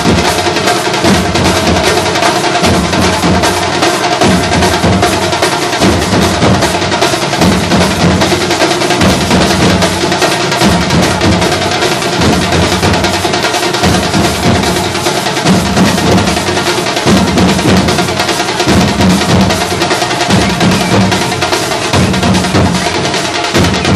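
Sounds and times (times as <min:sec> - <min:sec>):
bass drums and side drums: 0:00.0 - 0:23.9.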